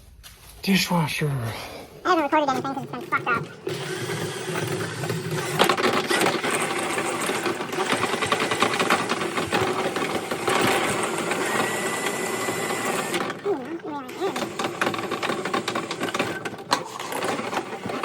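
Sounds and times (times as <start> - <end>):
small motorised tool rattling: 2.5 - 18.0.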